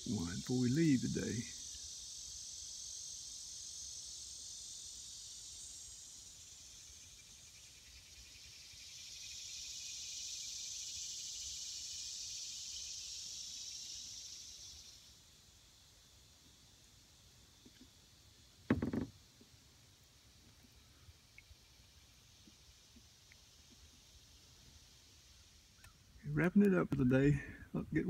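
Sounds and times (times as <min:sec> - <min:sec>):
insect chorus buzzing: 0:00.0 - 0:28.0.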